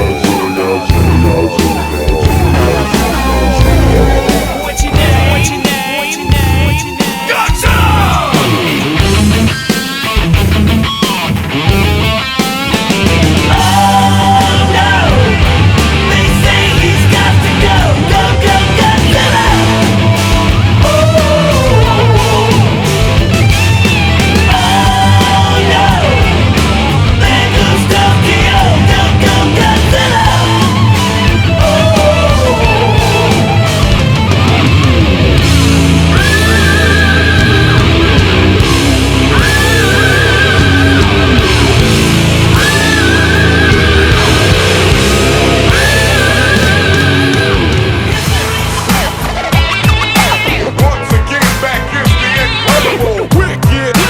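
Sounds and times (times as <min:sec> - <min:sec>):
loud rock music: 0:00.0 - 0:54.0.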